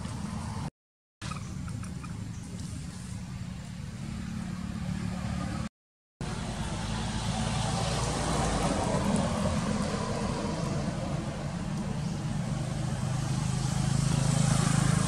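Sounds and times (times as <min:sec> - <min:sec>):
engine rumble with hiss: 0:00.0 - 0:15.0.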